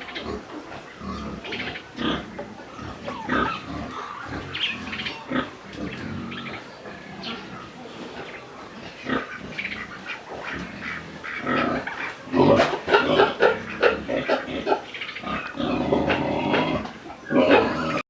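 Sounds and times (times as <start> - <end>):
pigs grunting: 0.0 - 18.0.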